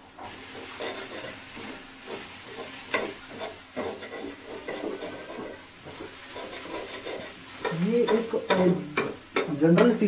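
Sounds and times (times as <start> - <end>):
potatoes sizzling in pan: 0.0 - 10.0
spoon scraping pan: 0.0 - 10.0.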